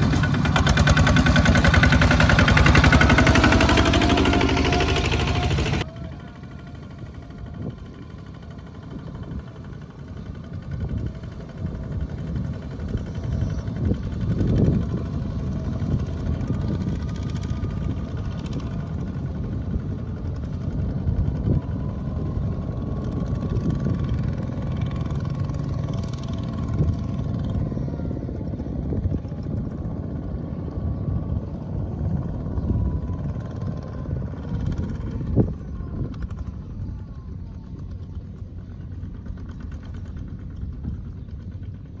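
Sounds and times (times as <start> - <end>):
diesel tractor engines chugging: 0.0 - 42.0.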